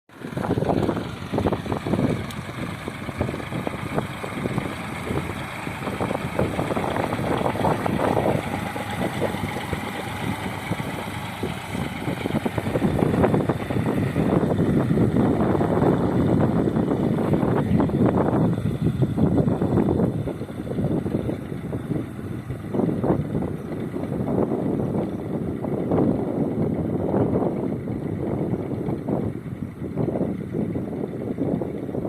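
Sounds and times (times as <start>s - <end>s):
tractor engine running: 0.1s - 32.0s.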